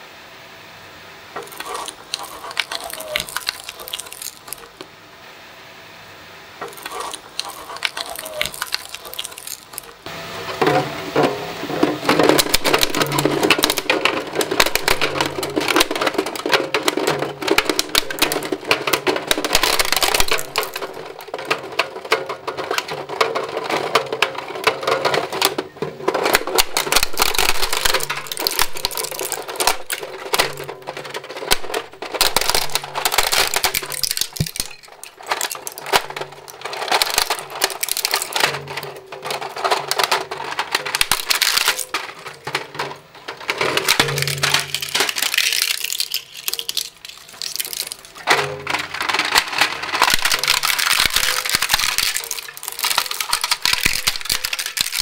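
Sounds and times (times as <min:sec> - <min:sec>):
shredder cutters tearing toys: 0:01.4 - 0:04.8, 0:06.6 - 0:10.1, 0:12.0 - 0:55.0
plastic cracking and snapping: 0:01.4 - 0:04.9, 0:06.6 - 0:10.1, 0:12.0 - 0:55.0.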